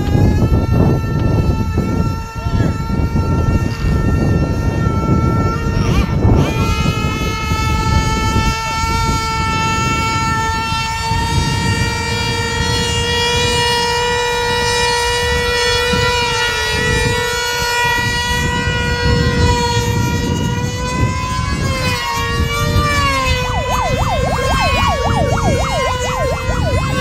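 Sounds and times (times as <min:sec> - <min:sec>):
engine tone swinging up and down: 0:00.0 - 0:27.0
model airplane engines whining: 0:00.0 - 0:27.0.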